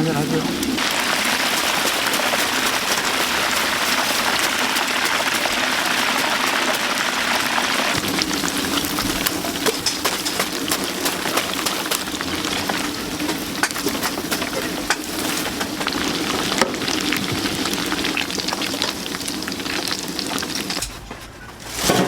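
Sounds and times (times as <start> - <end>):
food deep-frying in oil: 0.0 - 21.1.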